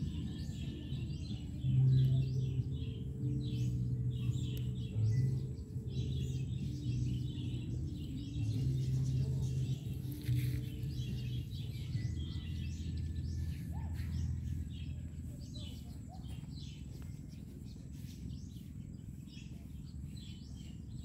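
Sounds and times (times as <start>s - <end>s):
low steady hum: 0.0s - 21.0s
small birds chirping: 0.0s - 21.0s
steady low rumble: 0.0s - 21.0s.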